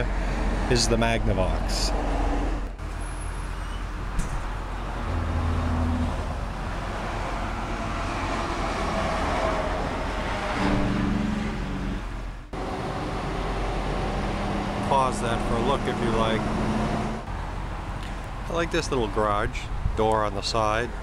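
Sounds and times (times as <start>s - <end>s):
highway traffic rushing: 0.0s - 21.0s.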